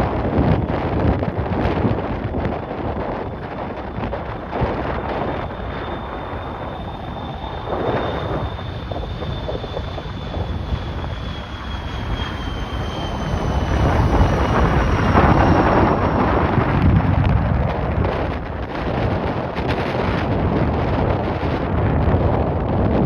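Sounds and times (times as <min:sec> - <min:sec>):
high whine falling in pitch: 0:00.0 - 0:19.8
jet engines: 0:00.0 - 0:23.0
wind buffeting microphone: 0:00.0 - 0:23.0.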